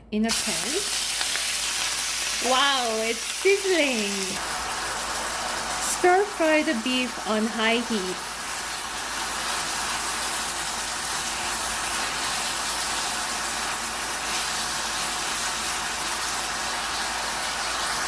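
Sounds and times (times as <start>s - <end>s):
beef sizzling in a wok: 0.3s - 18.0s.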